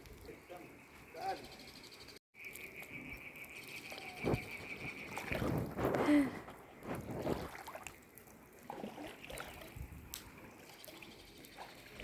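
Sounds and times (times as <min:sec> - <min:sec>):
water trickling and splashing: 0:02.4 - 0:12.0.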